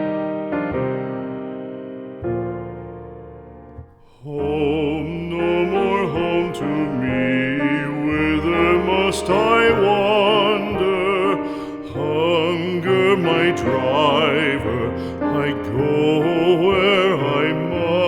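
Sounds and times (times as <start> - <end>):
slow sad song with vibrato: 0.0 - 18.0
soft piano passage: 0.0 - 18.0.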